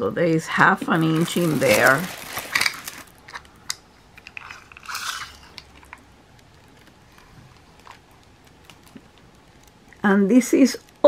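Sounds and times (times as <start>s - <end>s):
plastic film crinkling: 0.7s - 10.0s.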